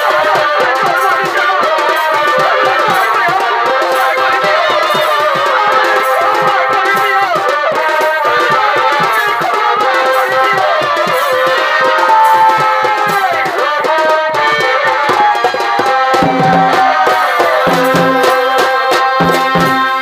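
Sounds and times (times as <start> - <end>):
drumming: 0.0 - 20.0
shehnai melody: 0.0 - 20.0.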